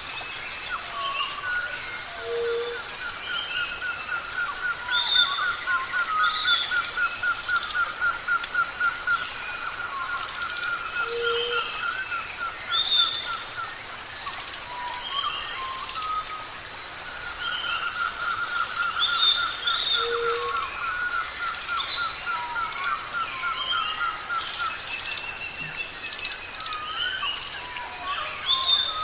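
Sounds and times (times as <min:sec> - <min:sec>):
bird chirping steadily: 0:00.0 - 0:29.0
natural background hiss: 0:00.0 - 0:29.0.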